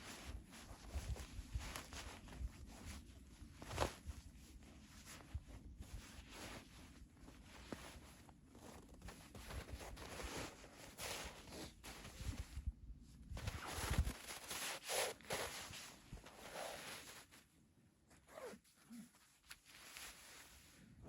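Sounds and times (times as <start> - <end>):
rustling and scuffing: 0.0 - 18.2.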